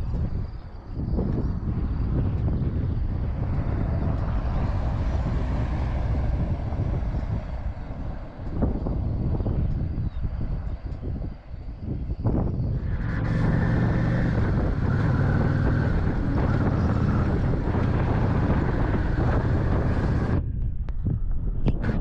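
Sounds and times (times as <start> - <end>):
motorcycle engine droning: 0.0 - 22.0
wind rushing over microphone: 0.0 - 22.0.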